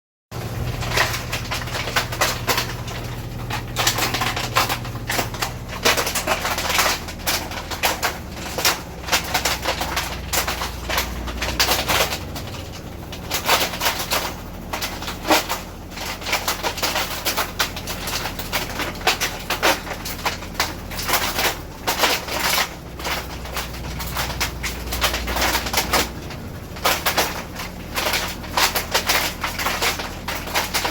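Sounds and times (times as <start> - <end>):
spinning drum hum: 0.3 - 30.9
washing machine clattering: 0.3 - 30.9.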